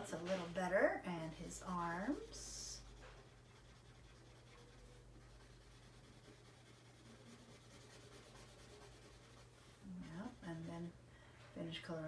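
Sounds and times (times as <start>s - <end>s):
marker scratching on paper: 0.1s - 10.7s.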